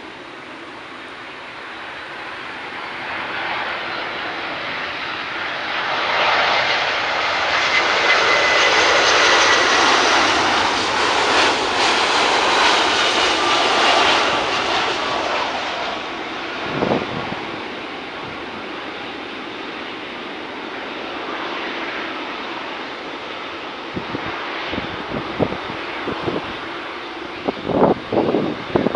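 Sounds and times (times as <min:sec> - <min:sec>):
faint high engine whine: 0:00.0 - 0:28.9
jet airliner flying past: 0:00.0 - 0:28.9.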